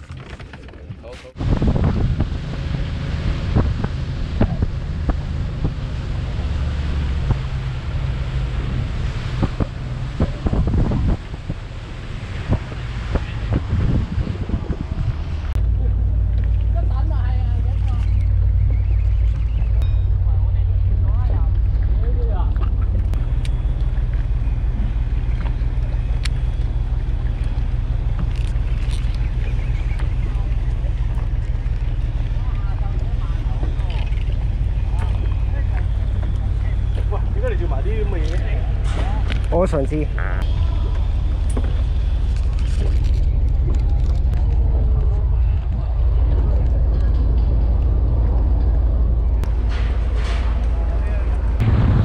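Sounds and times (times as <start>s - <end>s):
wind buffeting microphone: 0.8s - 52.0s
boat engine droning: 1.3s - 52.0s.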